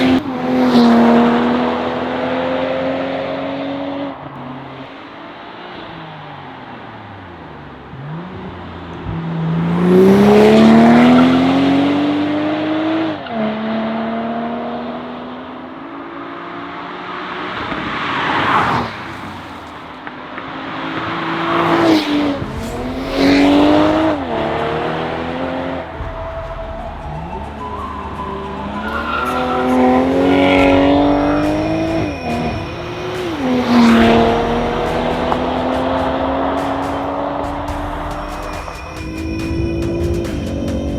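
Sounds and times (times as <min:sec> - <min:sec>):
car engine accelerating: 0:00.0 - 0:40.9
car passing by: 0:00.0 - 0:40.9.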